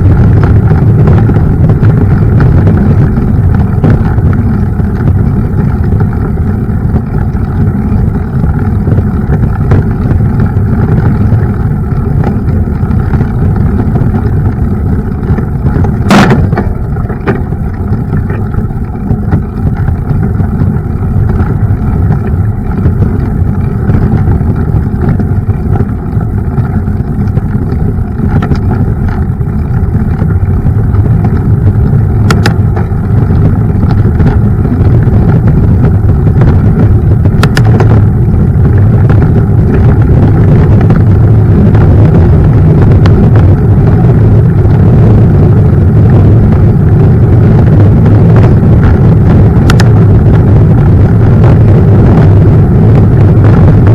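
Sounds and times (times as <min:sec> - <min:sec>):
bike rattles: 0:00.0 - 0:53.9
bike tyres on trail: 0:00.0 - 0:53.9
wind on microphone: 0:00.0 - 0:53.9.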